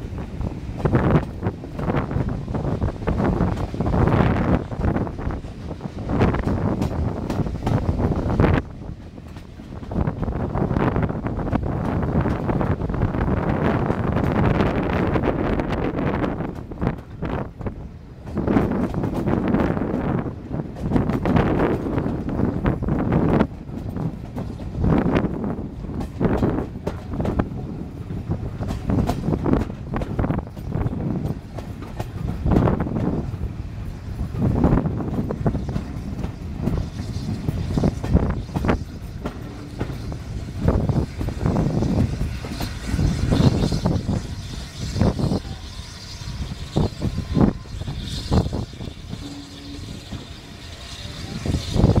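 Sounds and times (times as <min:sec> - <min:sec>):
wheels clattering on track: 0:00.0 - 0:13.2, 0:16.3 - 0:52.0
steam locomotive exhaust beats: 0:00.0 - 0:52.0
train coaches rumbling: 0:00.0 - 0:52.0
wind on microphone: 0:00.0 - 0:52.0.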